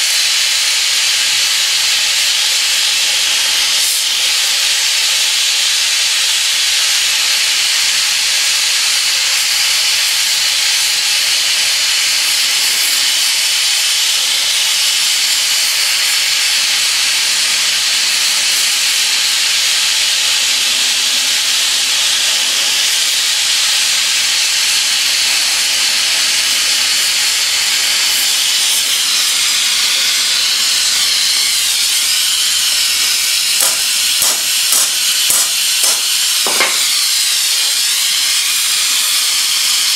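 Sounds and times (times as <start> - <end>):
gas torch flame hissing: 0.0 - 39.9.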